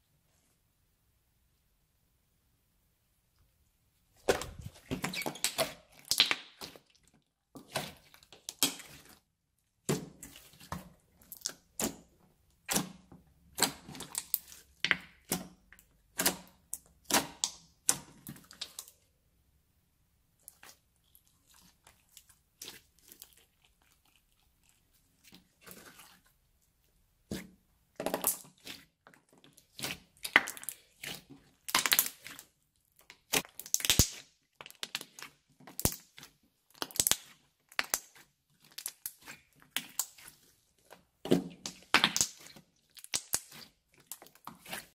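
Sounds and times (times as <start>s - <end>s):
slime squelching and popping: 4.2s - 19.0s, 20.4s - 44.9s.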